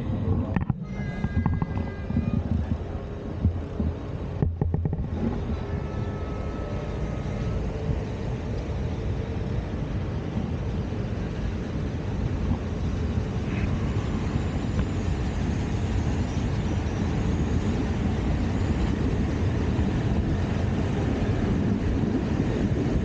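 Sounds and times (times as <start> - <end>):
moving vehicle rumble: 0.0 - 23.0.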